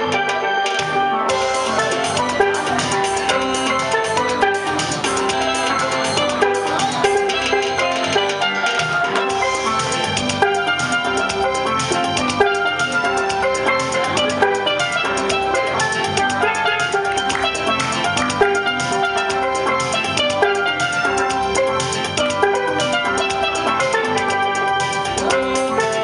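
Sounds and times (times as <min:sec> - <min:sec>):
fast rhythmic beat: 0:00.0 - 0:26.0
steel pans playing a tune: 0:00.0 - 0:26.0.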